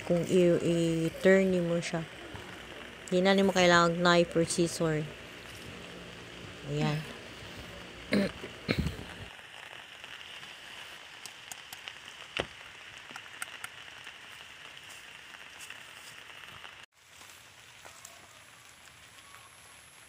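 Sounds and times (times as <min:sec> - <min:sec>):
steady outdoor hiss: 0:00.0 - 0:20.0
light crackles and clicks: 0:02.0 - 0:04.0, 0:04.7 - 0:20.0.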